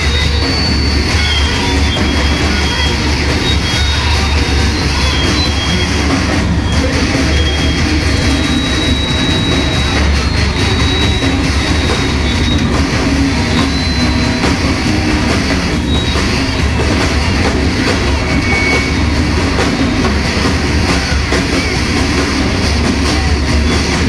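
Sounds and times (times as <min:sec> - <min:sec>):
high whistling tones: 0:00.0 - 0:24.0
noise music rumble and hiss: 0:00.0 - 0:24.0.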